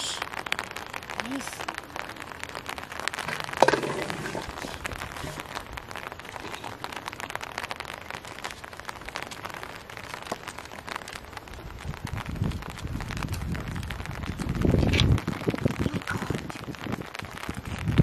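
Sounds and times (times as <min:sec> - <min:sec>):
small crackling clicks: 0:00.1 - 0:18.0.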